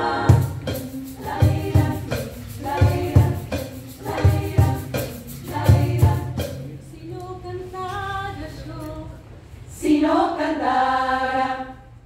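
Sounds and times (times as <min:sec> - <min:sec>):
women's choir singing: 0:00.0 - 0:12.0.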